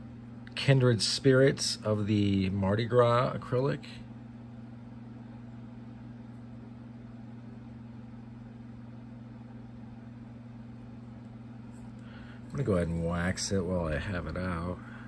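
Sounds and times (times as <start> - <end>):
low room tone hum: 0.0 - 15.0.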